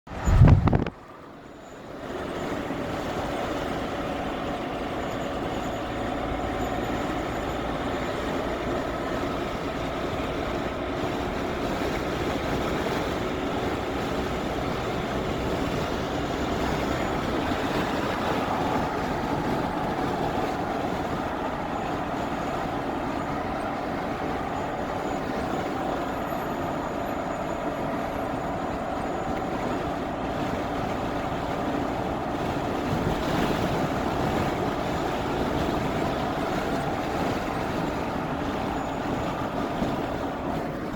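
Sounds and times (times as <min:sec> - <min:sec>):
vehicle road noise: 0:00.0 - 0:40.9.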